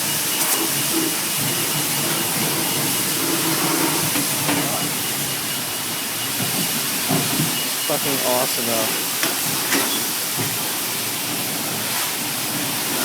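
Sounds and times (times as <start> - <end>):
high-pressure water spray hissing: 0.0 - 13.0.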